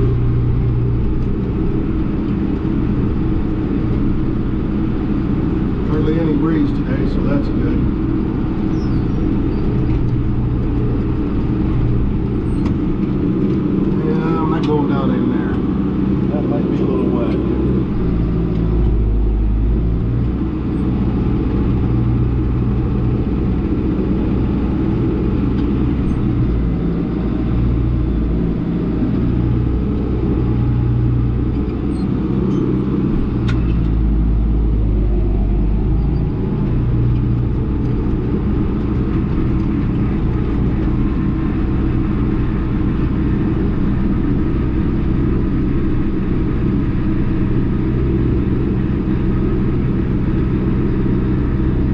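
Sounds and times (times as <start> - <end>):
tractor diesel engine drone: 0.0 - 51.9.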